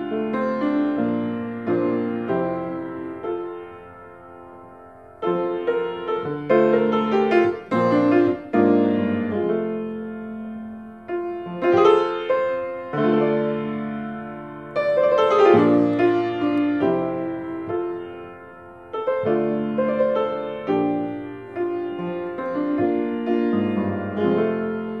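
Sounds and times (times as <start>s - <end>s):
grand piano chords: 0.0s - 25.0s.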